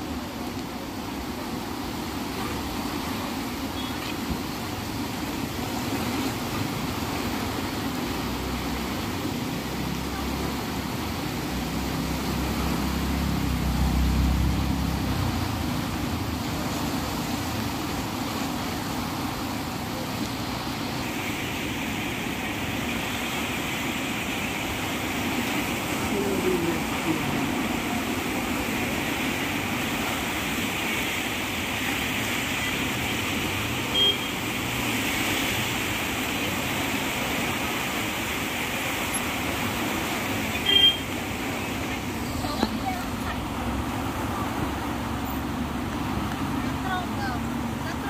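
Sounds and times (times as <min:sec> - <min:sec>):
flooded river roaring: 0:00.0 - 0:48.0.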